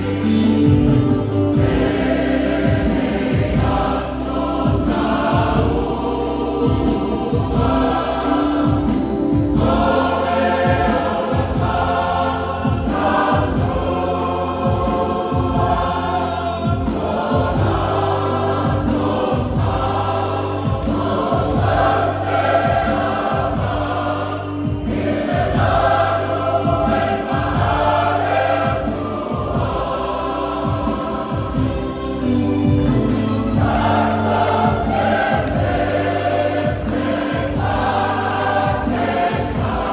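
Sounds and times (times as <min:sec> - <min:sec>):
choir singing a hymn: 0:00.0 - 0:39.9
low instrumental accompaniment: 0:00.0 - 0:39.9.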